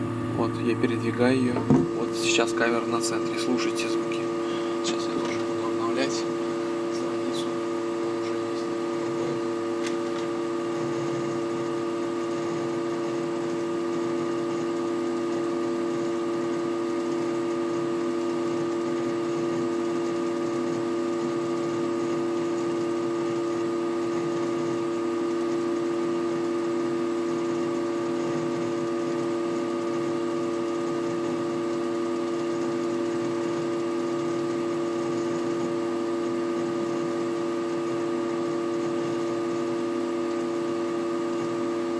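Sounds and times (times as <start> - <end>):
computer humming: 0.0 - 41.9.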